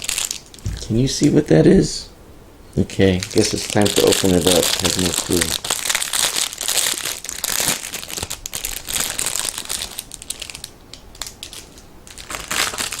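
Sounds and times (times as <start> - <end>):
packaging crinkling and rustling: 0.0 - 1.4, 3.0 - 13.0.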